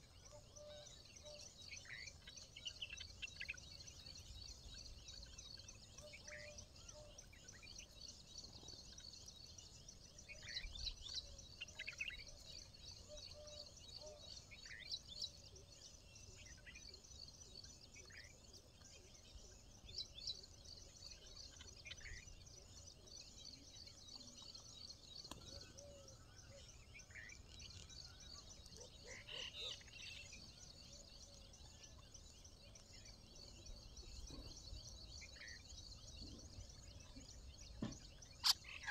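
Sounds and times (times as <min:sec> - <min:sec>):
insect chorus: 0:00.0 - 0:38.9.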